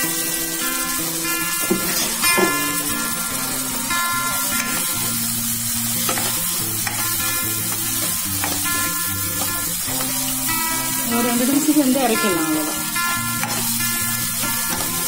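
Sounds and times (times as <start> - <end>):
background music: 0.0 - 15.0
fish masala sizzling in oil: 0.0 - 15.0
spoon stirring: 1.3 - 15.0.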